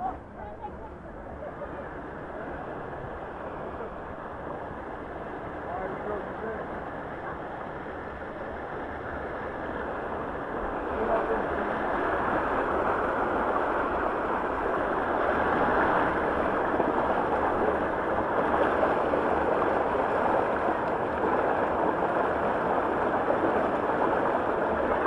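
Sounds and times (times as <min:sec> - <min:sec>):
water rushing down a waterslide: 0:00.0 - 0:25.0.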